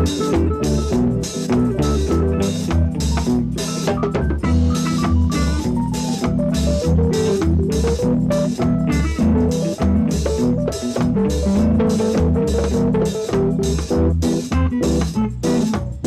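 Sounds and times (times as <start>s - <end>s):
instrumental reggae music: 0.0s - 16.0s
off-beat guitar chops: 0.0s - 16.0s.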